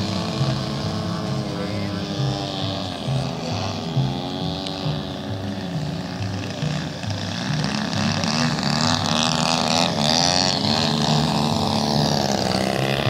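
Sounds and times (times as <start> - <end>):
model airplane engine: 0.0 - 13.0.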